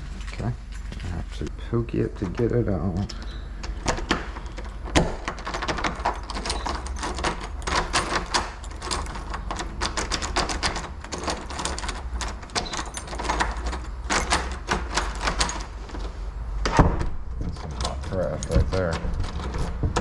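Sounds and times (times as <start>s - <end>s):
lock hardware clicking and clattering: 2.1s - 20.0s.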